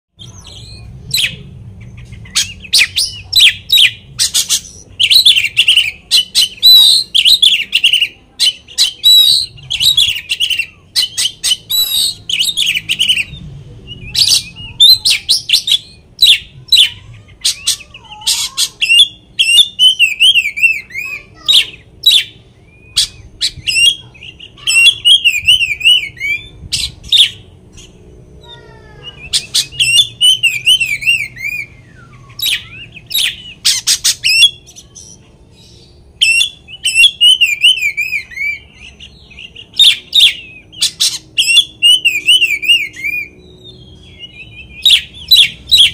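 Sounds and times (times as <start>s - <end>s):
bird singing varied song: 0.1s - 45.9s.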